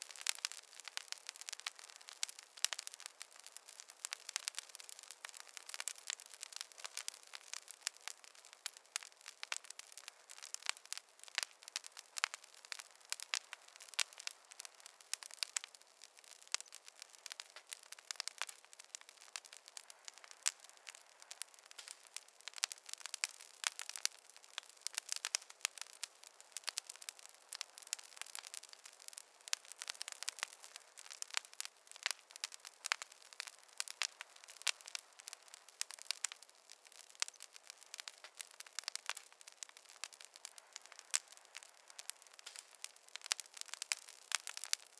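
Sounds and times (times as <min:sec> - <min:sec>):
faint hiss: 0:00.0 - 0:44.9
logs crackling in a fireplace: 0:00.0 - 0:44.9.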